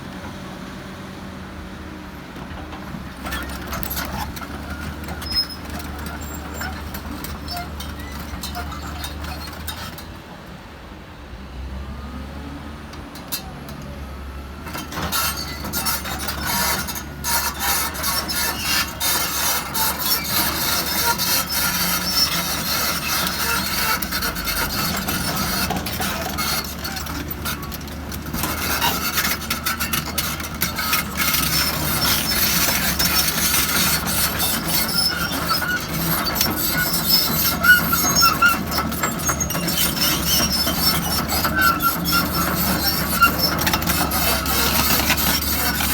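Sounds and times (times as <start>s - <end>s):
excavator engine drone: 0.0s - 45.9s
rasping scraping noise: 3.2s - 10.1s, 14.7s - 45.9s.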